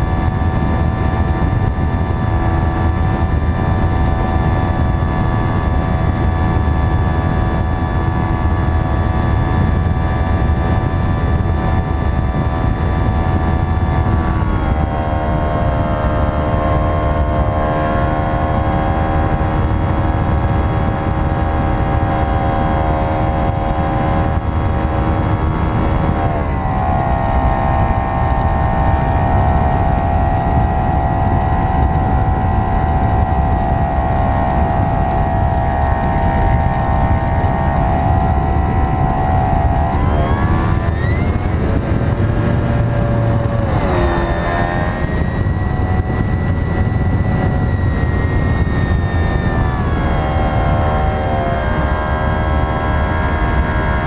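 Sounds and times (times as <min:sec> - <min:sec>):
model plane motor droning: 0:00.0 - 0:54.0
thin high whine: 0:00.0 - 0:54.0
wind rush: 0:00.0 - 0:54.0.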